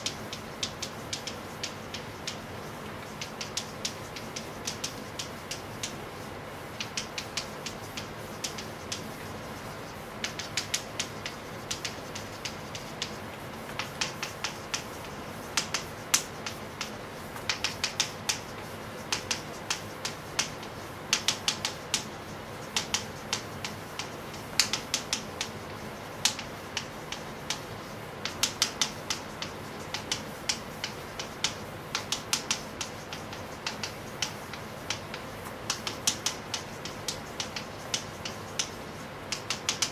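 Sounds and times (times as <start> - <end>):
chalk clicking on blackboard: 0.0 - 39.9
faint steady hum: 0.0 - 39.9.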